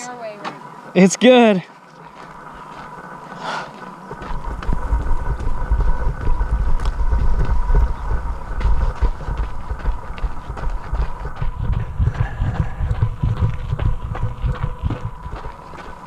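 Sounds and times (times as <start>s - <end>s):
faint high whine: 0.0s - 16.0s
wind buffeting microphone: 2.6s - 16.0s.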